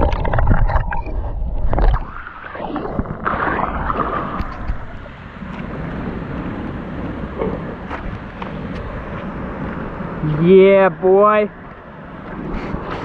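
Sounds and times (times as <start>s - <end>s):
stream water running: 0.0s - 13.0s
wind buffeting microphone: 0.0s - 13.0s.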